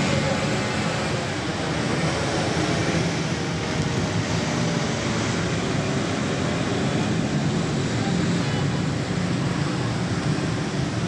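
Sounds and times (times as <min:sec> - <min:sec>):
motorbike engines running: 0:00.0 - 0:11.0.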